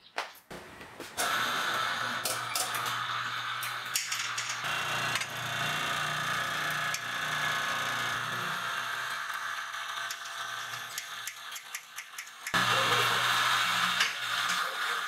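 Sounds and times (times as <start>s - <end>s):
electric winch motor running: 1.2s - 15.0s.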